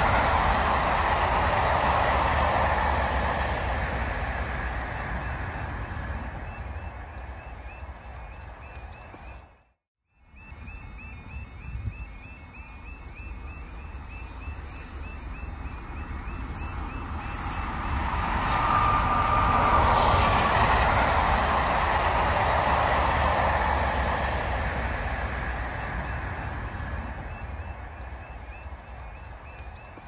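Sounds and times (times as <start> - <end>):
train wheels rumbling on rails: 0.0 - 9.6, 13.0 - 30.0.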